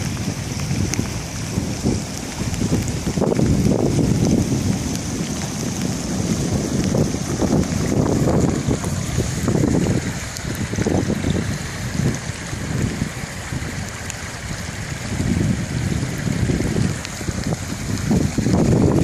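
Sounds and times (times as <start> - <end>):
rush of flowing water: 0.0 - 19.0
wind buffeting microphone: 0.0 - 19.0.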